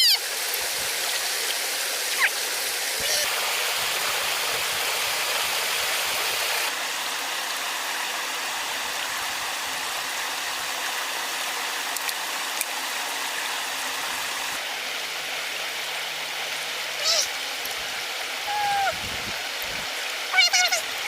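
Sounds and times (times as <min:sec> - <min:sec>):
flowing water: 0:00.0 - 0:21.0.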